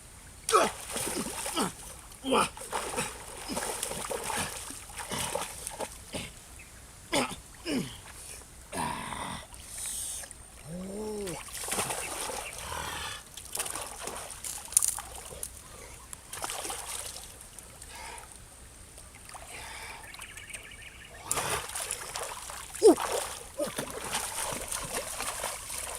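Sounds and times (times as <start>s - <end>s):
water splashing and trickling: 0.4s - 6.6s, 9.2s - 25.9s.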